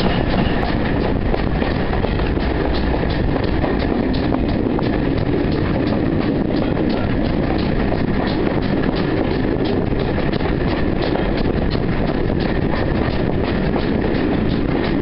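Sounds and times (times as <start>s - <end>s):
steam locomotive exhaust beats: 0.0s - 15.0s
train rumble: 0.0s - 15.0s
wind: 0.0s - 15.0s.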